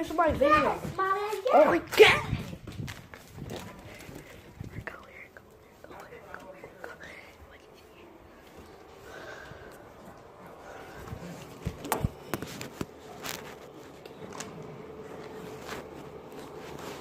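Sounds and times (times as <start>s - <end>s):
faint steady hum: 2.0s - 17.0s.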